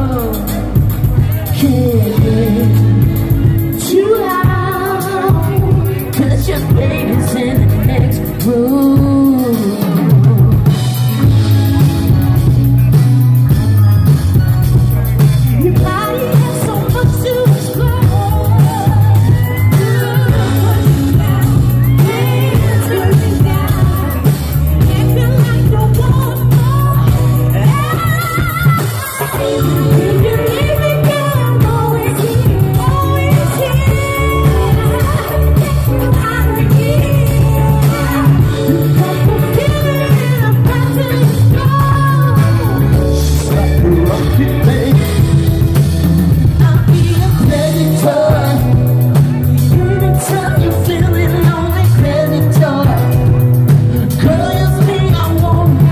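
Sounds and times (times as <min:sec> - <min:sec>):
drums: 0:00.0 - 0:55.9
electric guitar: 0:00.0 - 0:55.9
heavy bass: 0:00.0 - 0:55.9
man singing: 0:00.0 - 0:55.9.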